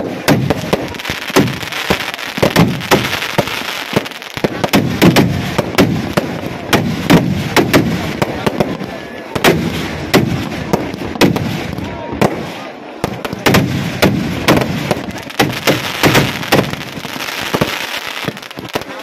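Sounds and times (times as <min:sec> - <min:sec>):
firework bangs: 0:00.0 - 0:19.0
firework crackle and hiss: 0:00.0 - 0:19.0.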